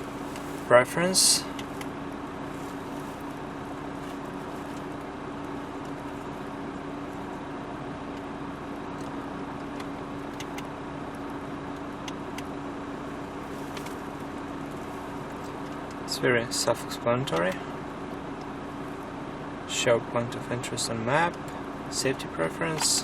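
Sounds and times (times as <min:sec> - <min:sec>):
car cabin running hum: 0:00.0 - 0:23.0.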